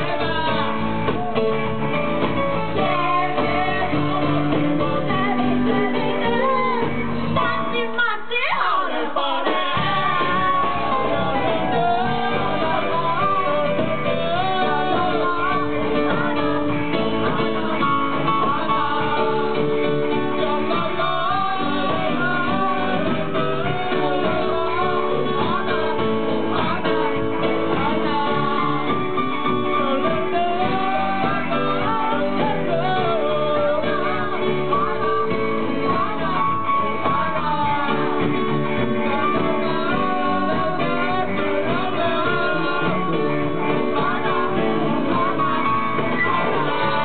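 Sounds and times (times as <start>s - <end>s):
electric guitar: 0.0s - 8.1s, 8.9s - 47.0s
live band playing: 0.0s - 47.0s
person singing: 0.0s - 47.0s.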